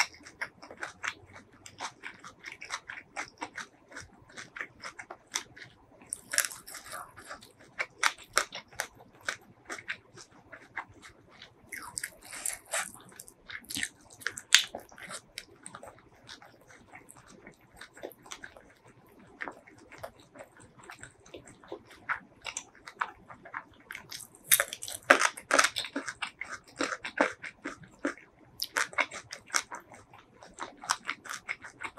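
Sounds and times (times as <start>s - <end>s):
crisp crunching of raw vegetable: 0.0s - 18.7s, 19.3s - 31.9s
soft chewing and mouth clicks: 0.0s - 31.9s.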